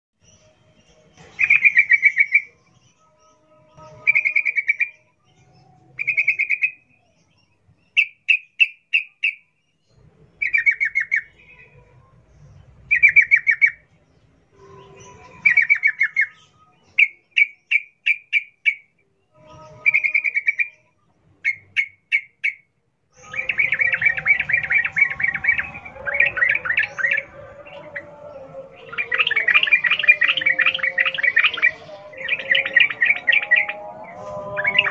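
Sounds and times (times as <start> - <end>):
bird chattering song: 0.2 - 34.9.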